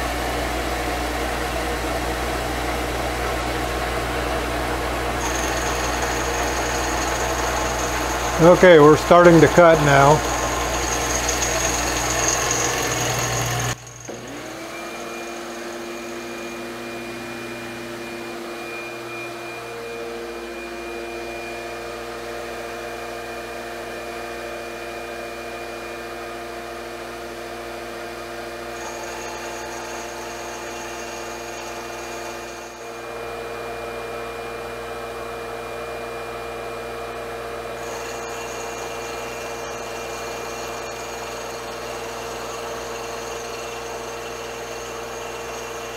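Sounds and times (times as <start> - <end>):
wood lathe humming: 0.0 - 23.1, 28.3 - 35.2, 37.1 - 45.9
shop vacuum running: 0.0 - 45.9.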